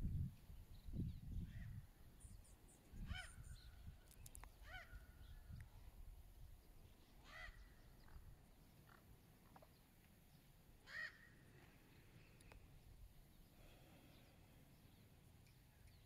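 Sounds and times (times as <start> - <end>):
bird calls: 0.8 - 5.7, 6.6 - 16.0.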